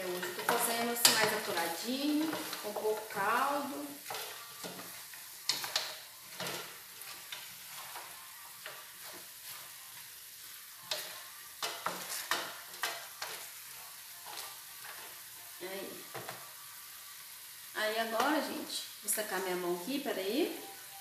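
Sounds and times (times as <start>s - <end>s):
chicken sizzling in pot: 0.0s - 21.0s.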